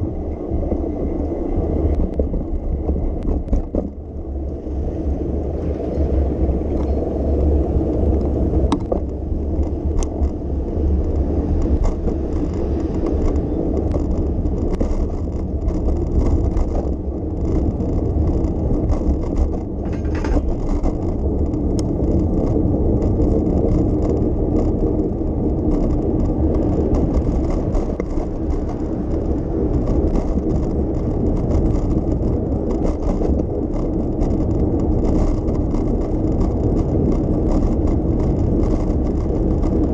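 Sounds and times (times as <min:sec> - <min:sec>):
bicycle tyres rolling on street: 0:00.0 - 0:39.9
wind on microphone: 0:00.0 - 0:39.9.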